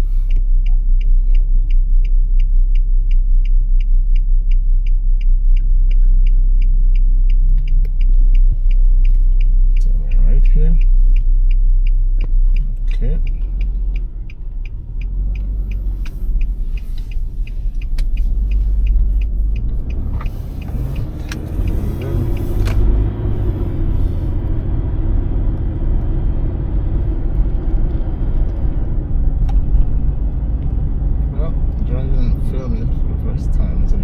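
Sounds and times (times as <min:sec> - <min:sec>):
car engine and road rumble: 0:00.0 - 0:34.0
regular ticking: 0:00.2 - 0:34.0.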